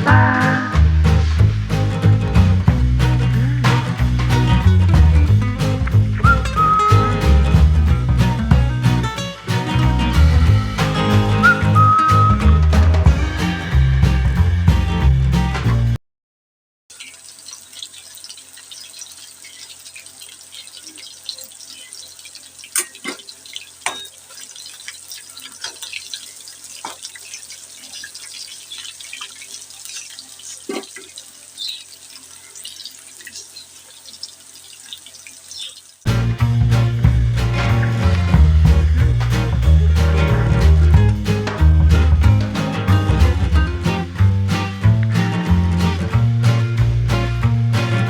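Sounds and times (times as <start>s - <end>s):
chicken frying in hot oil: 0.8s - 15.7s, 16.9s - 47.8s.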